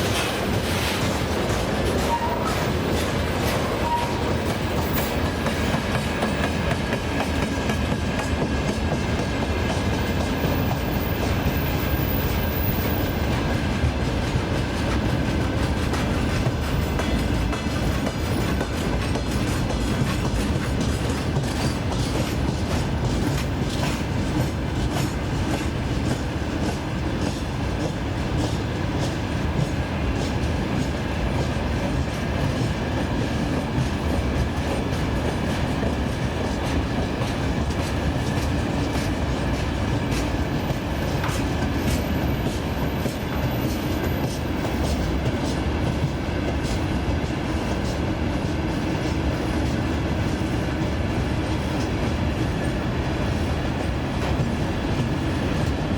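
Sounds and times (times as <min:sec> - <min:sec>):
heavy train rumble: 0:00.0 - 0:55.9
train wheels clacking over joints: 0:00.0 - 0:55.9.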